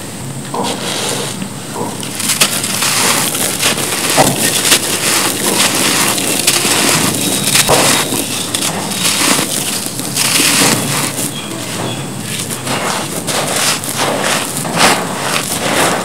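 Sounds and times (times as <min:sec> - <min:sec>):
cement block crunching: 0:01.8 - 0:16.0
grit pouring: 0:01.9 - 0:16.0.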